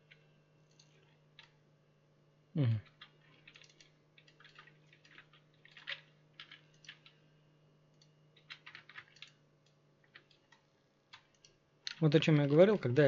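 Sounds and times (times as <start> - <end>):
typing on a keyboard: 0.0 - 1.6, 2.8 - 7.2, 8.0 - 12.6
low steady hum: 0.0 - 13.0.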